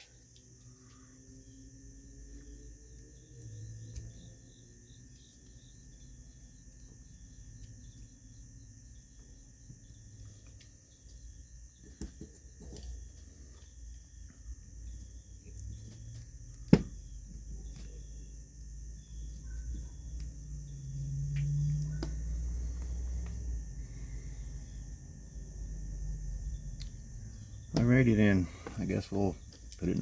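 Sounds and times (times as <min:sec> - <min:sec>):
steady high-pitched whine: 0:00.0 - 0:30.0.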